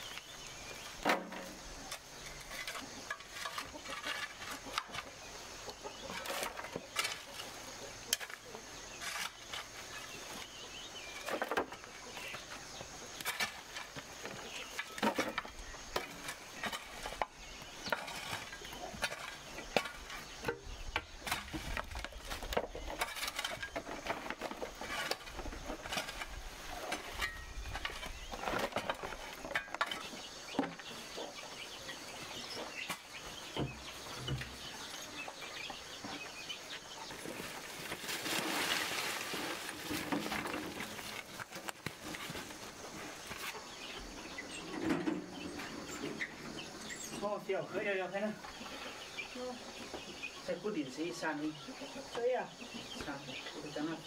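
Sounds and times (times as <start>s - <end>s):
hand tools scraping dirt: 0.0s - 49.0s.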